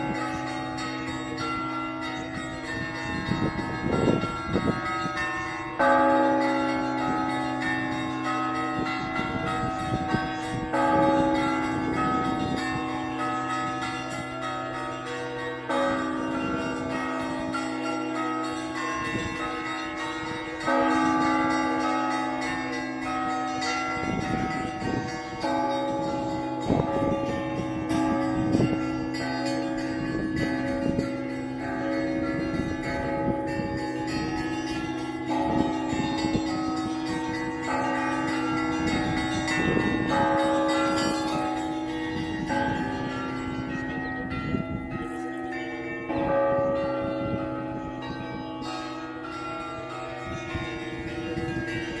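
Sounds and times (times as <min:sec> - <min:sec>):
smaller higher bells struck: 0:00.0 - 0:52.0.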